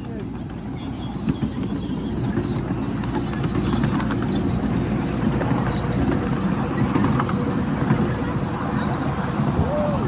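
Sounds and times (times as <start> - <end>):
light track clatter: 0.0 - 10.0
miniature train rumbling on track: 0.0 - 10.0.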